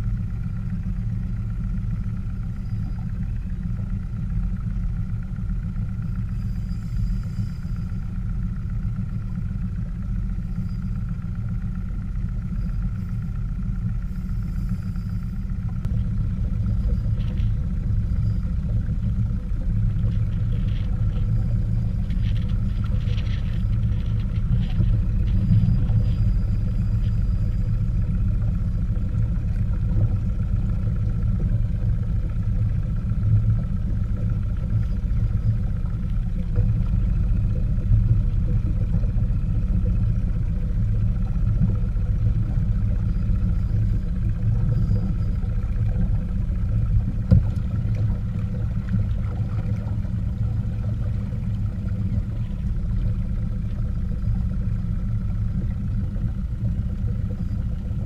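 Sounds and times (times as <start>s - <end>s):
faint steady whine: 0.0s - 58.0s.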